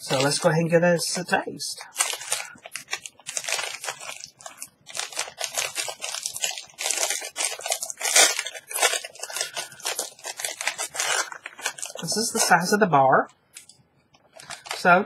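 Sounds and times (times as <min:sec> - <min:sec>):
wrapper crinkling: 0:00.0 - 0:12.8, 0:13.5 - 0:15.0.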